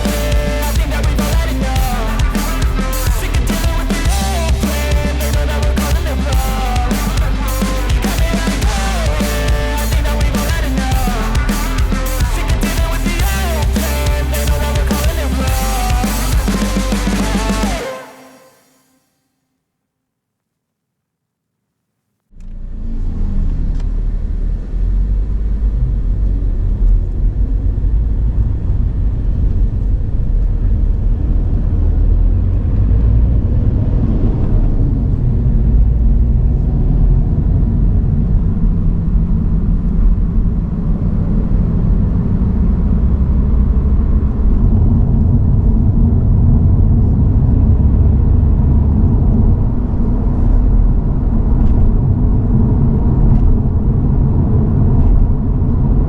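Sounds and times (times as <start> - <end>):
car engine low rumble: 0.0 - 17.6, 22.4 - 56.0.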